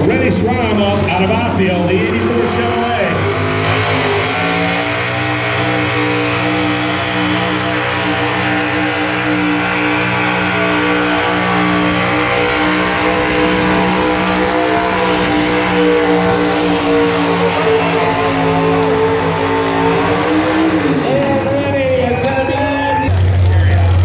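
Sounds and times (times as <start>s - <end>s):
truck engine running at high revs: 0.0s - 24.0s.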